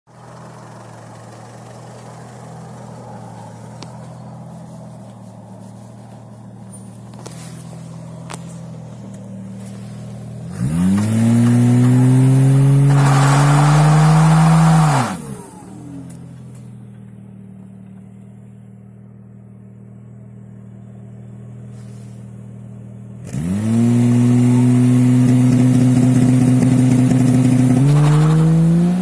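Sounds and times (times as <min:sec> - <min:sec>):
car engine idling and revving: 0:00.1 - 0:29.0.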